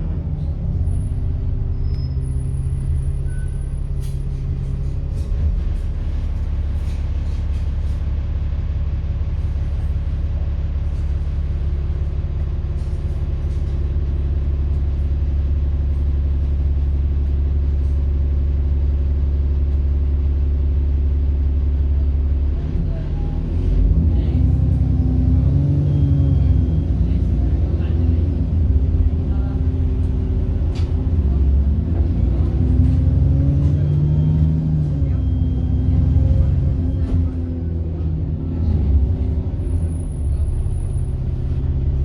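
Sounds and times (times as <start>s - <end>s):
diesel bus engine running: 0.0s - 42.0s.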